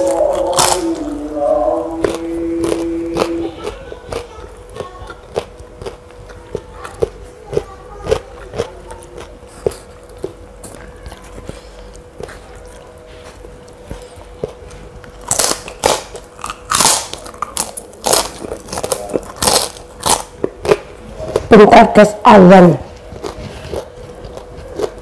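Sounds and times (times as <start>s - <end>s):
cracker crunching: 0.0s - 21.5s, 22.9s - 25.0s.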